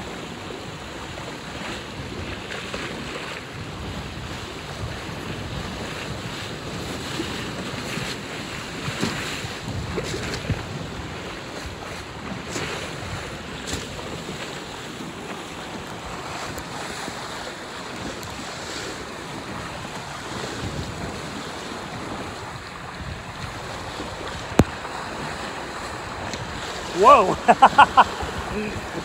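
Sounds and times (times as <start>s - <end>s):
waves and spray rushing: 0.0s - 29.0s
wind buffeting microphone: 0.0s - 29.0s.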